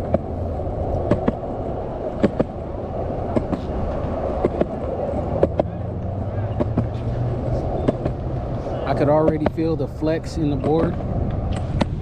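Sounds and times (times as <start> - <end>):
skateboard wheels rumbling: 0.0 - 12.0
wheels clicking over seams: 0.0 - 12.0.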